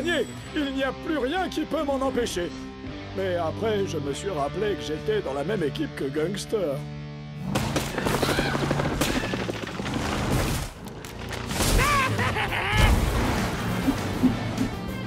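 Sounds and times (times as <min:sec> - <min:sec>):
background music: 0:00.0 - 0:09.4, 0:11.0 - 0:15.0.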